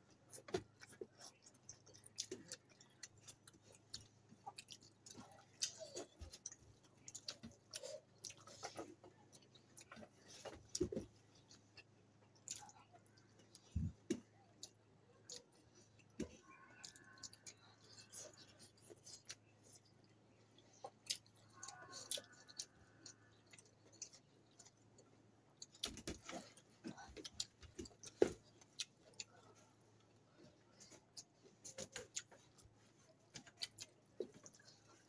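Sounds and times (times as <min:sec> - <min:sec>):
chewing and lip smacks: 0:00.0 - 0:35.0.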